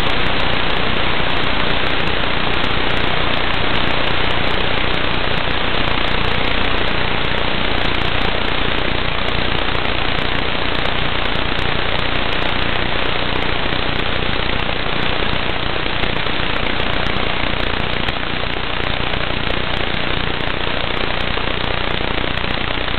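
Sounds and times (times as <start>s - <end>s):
static hiss with crackle: 0.0s - 22.9s.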